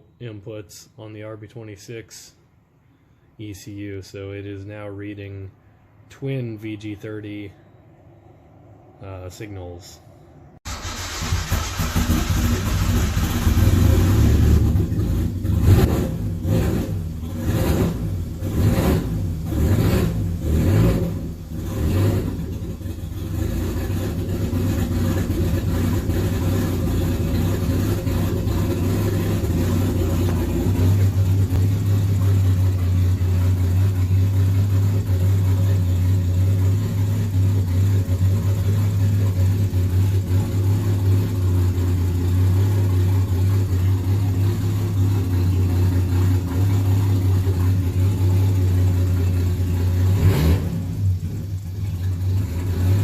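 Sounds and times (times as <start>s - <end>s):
engine throttle blips: 5.6s - 53.0s
car engine idling: 8.2s - 53.0s.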